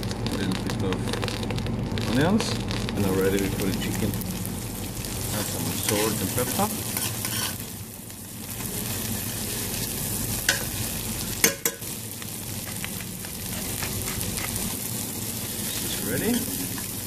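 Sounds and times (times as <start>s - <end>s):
butter sizzling in frying pan: 0.0s - 17.0s.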